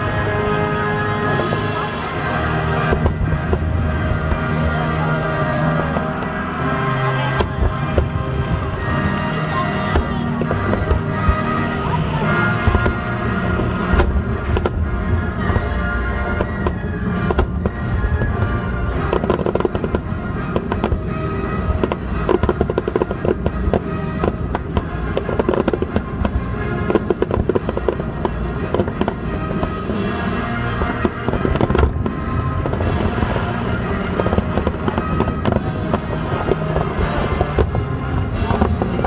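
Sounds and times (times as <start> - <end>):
fireworks bangs and crackling: 0.0 - 39.0
music playing: 0.0 - 39.0.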